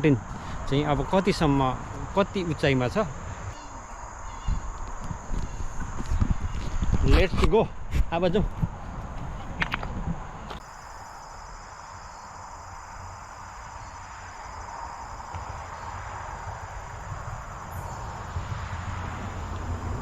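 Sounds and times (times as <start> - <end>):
insects trilling: 0.0 - 7.2, 10.6 - 20.0.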